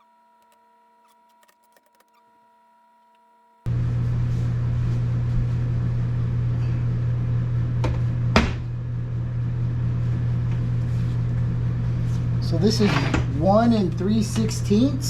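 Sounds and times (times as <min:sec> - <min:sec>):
mechanical motor hum: 0:00.0 - 0:15.0.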